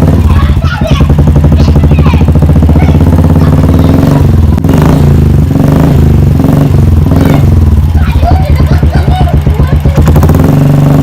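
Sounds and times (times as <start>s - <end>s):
motorcycle engine thumping: 0.0s - 11.0s.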